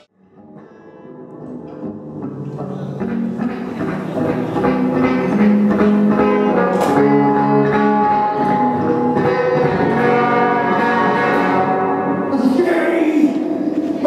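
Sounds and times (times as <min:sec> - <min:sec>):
guitar: 0:00.0 - 0:14.0.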